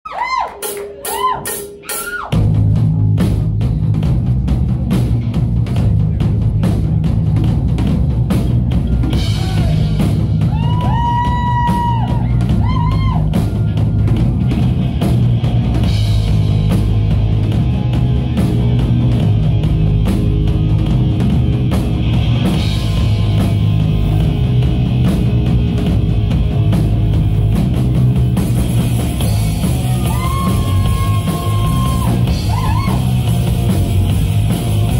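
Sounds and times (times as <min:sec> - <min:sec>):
drum kit: 0:00.1 - 0:34.9
bass guitar: 0:00.6 - 0:34.9
distorted electric guitars: 0:00.6 - 0:34.9.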